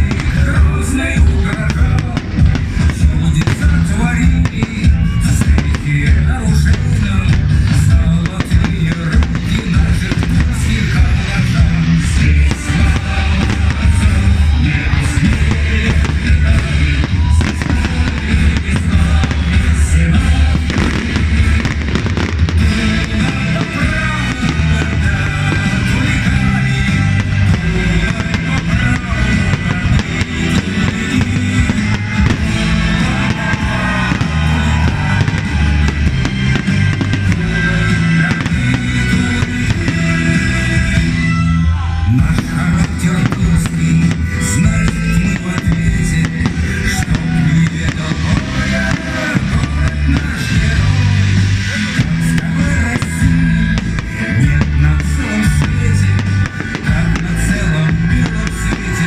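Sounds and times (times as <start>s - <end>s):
fireworks bursting: 0.0s - 59.0s
loud music: 0.0s - 59.0s.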